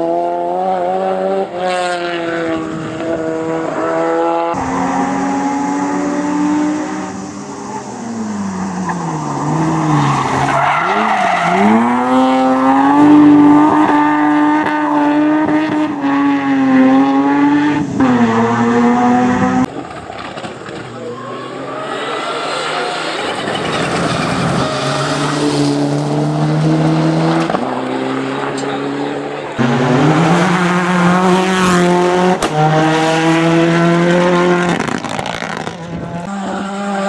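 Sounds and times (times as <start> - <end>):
race car engine revving: 0.0 - 19.8, 20.7 - 37.0
distant race car engine: 0.0 - 37.0.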